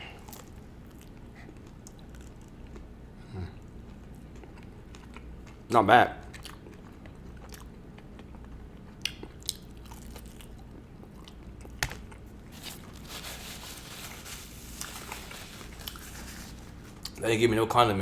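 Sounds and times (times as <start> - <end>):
chewing crispy food: 0.0 - 3.0, 3.7 - 17.2.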